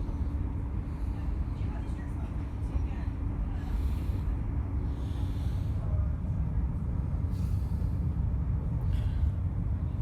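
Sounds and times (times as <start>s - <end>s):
train rumble from inside carriage: 0.0s - 10.0s.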